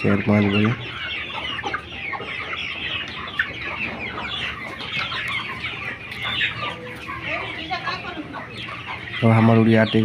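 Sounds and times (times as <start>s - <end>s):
chickens peeping and clucking: 0.0s - 10.0s.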